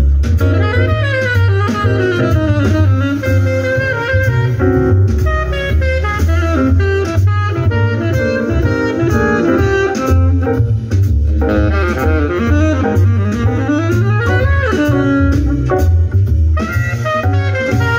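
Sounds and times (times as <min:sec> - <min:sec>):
instrumental music with strong bass: 0:00.0 - 0:17.9.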